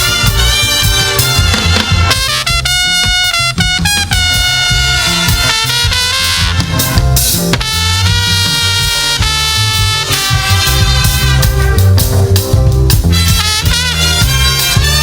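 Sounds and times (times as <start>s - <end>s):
bass: 0.0s - 15.0s
brass horns playing: 0.0s - 15.0s
drums: 0.0s - 15.0s.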